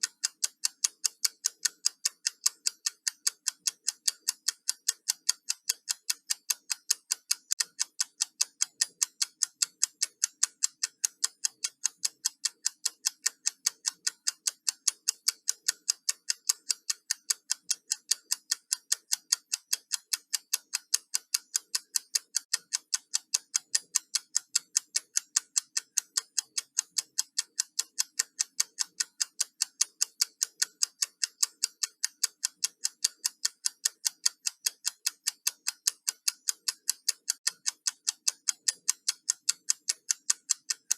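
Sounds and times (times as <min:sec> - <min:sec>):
timer ticking: 0:00.0 - 0:40.9.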